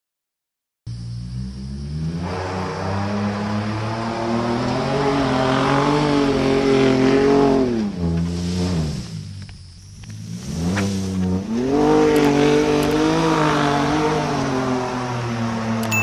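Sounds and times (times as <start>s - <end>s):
pickup truck engine revving: 1.2s - 9.4s, 10.2s - 15.9s.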